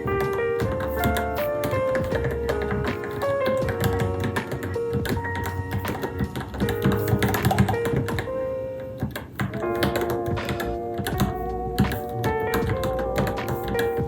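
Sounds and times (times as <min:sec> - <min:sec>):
mechanical keyboard typing: 0:00.0 - 0:08.3, 0:09.0 - 0:14.0
background music sustained notes: 0:00.0 - 0:14.0.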